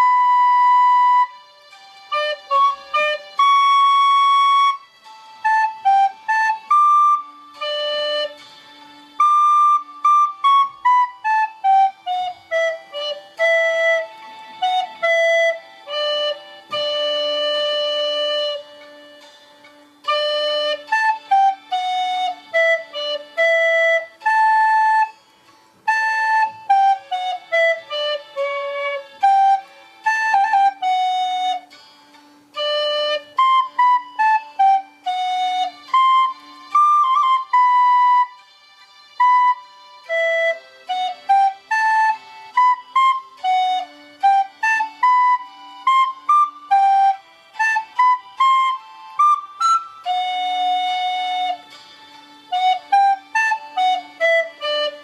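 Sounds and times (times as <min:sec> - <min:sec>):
recorder playing a melody: 0:00.0 - 0:55.0.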